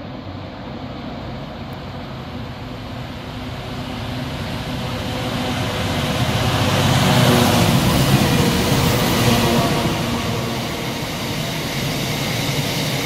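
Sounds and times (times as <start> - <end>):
diesel locomotive engines passing: 0.0 - 13.0
wheel-on-rail rumble: 0.0 - 13.0.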